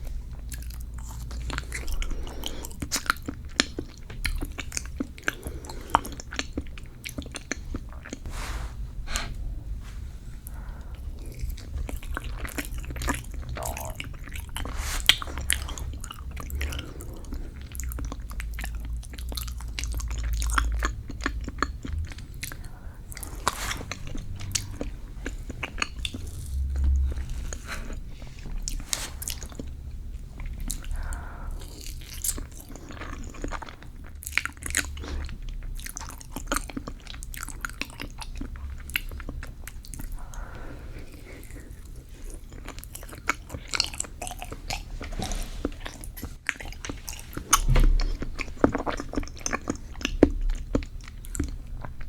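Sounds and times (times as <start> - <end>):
chewing cheesecake: 0.0 - 52.0.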